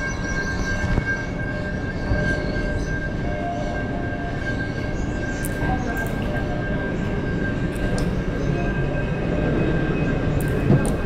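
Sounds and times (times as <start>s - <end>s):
electric train whine: 0.0s - 11.0s
train rumble: 0.0s - 11.0s.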